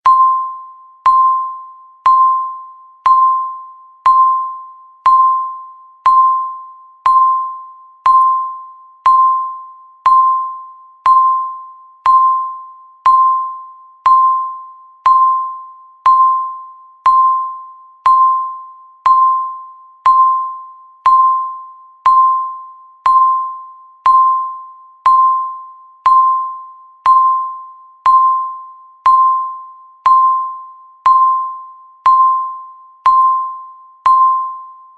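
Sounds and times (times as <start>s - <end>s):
bell-like timer beep: 0.0s - 34.9s.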